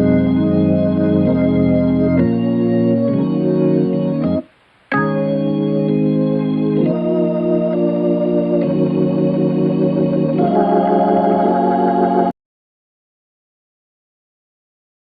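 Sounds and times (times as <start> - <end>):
organ chords: 0.0 - 12.4.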